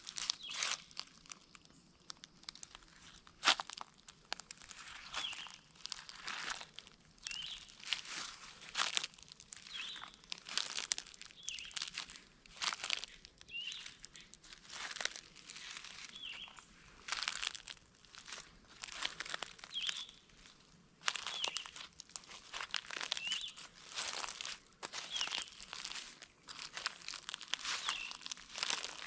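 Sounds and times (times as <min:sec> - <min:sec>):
footsteps crunching through dry leaves: 0:00.0 - 0:29.0.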